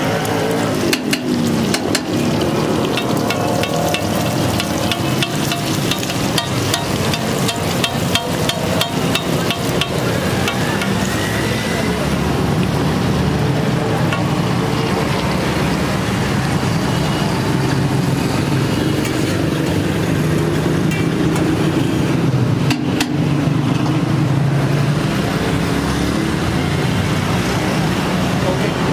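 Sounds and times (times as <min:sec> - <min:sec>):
roadside traffic noise: 0:00.0 - 0:28.9.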